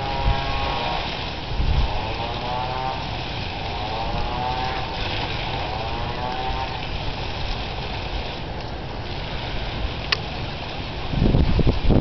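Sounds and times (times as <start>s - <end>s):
hose water spraying: 0.0s - 12.0s
motor-like hum: 0.0s - 12.0s.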